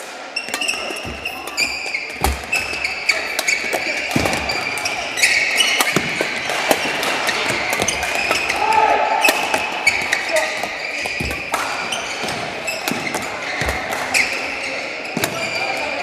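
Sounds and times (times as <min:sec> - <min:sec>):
shoes squeaking on court floor: 0:00.0 - 0:16.0
racket striking shuttlecock: 0:00.4 - 0:14.3.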